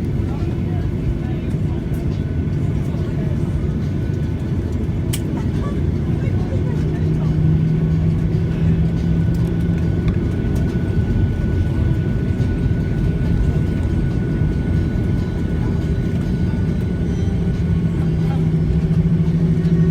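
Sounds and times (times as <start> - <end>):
aeroplane rumble: 0.0 - 19.9.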